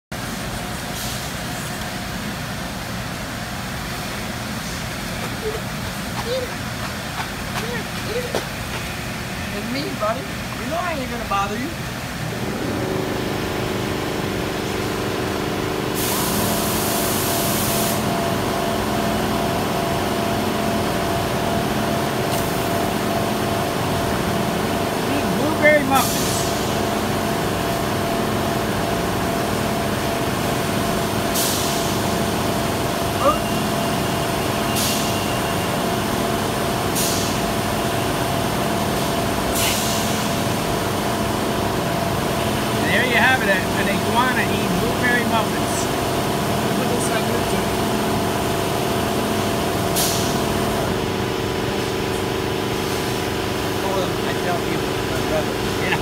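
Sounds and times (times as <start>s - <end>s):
machinery humming: 0.2s - 56.0s.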